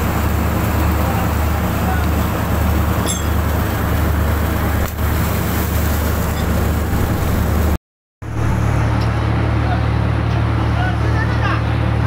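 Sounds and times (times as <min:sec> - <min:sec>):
boat engine running: 0:00.0 - 0:12.0
water churning along hull: 0:00.0 - 0:12.0.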